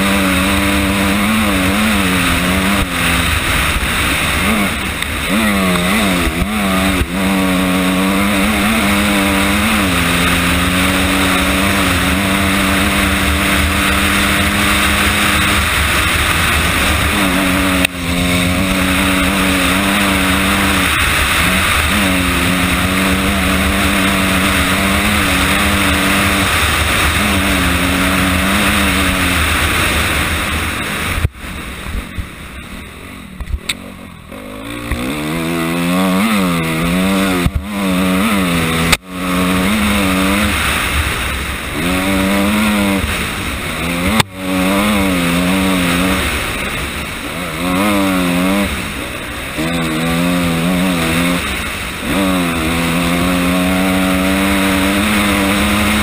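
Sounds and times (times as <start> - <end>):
dirt bike engine running hard: 0.0 - 56.0.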